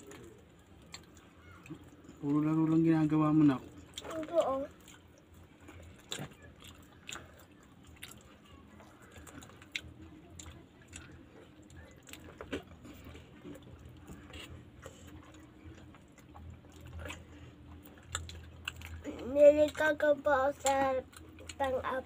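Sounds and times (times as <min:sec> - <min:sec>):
people chewing: 0:00.0 - 0:22.0.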